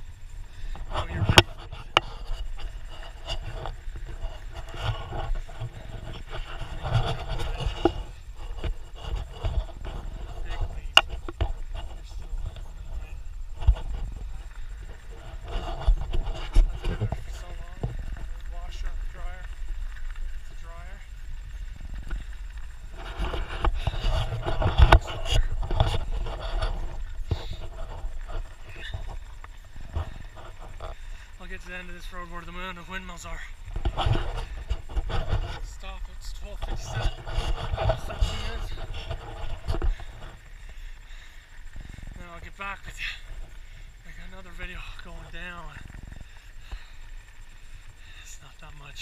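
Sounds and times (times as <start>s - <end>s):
bike clicks and rattles: 0.0s - 49.0s
steady low rumble: 0.0s - 49.0s
tyres scraping over dirt: 0.0s - 49.0s.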